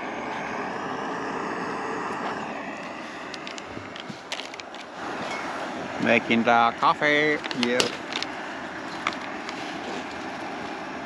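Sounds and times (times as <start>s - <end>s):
gas stove burner hissing: 0.0s - 11.0s.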